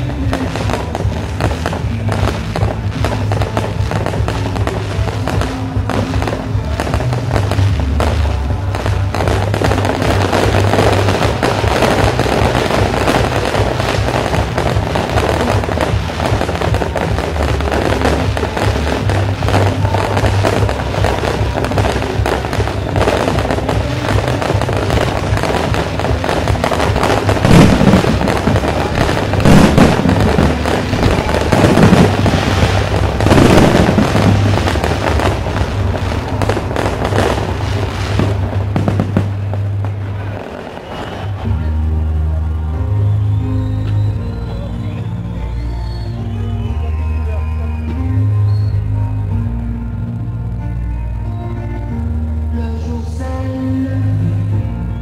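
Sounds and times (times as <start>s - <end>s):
heavy firework bangs: 0.0s - 45.1s
fireworks crackling: 0.0s - 55.0s.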